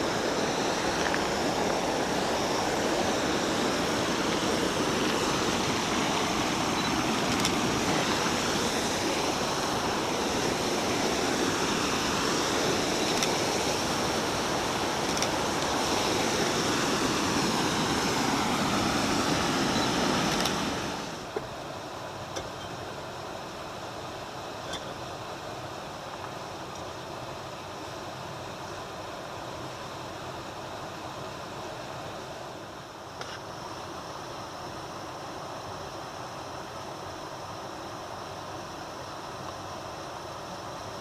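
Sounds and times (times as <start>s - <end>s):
creek rushing over waterfall: 0.0s - 41.0s.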